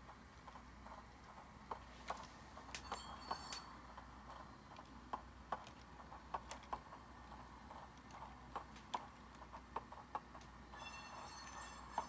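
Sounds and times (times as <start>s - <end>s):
clickety-clack of wheels over rail joints: 0.0s - 12.0s.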